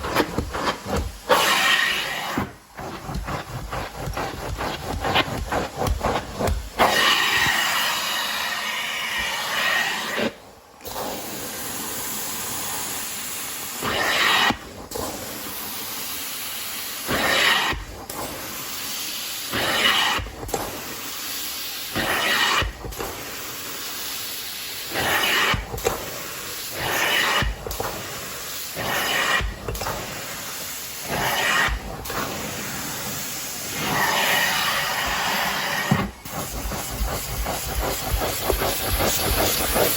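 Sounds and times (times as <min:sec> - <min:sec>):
carpet cleaner suction hiss: 0:00.0 - 0:39.9.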